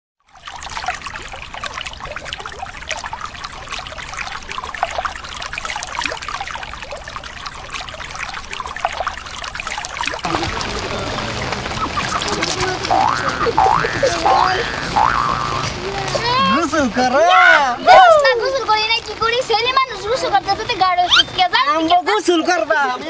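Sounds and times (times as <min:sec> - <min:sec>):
river water splashing and trickling: 0:00.2 - 0:23.0.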